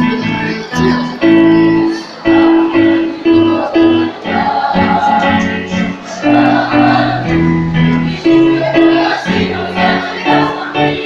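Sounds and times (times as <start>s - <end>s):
choir singing: 0.5s - 11.0s.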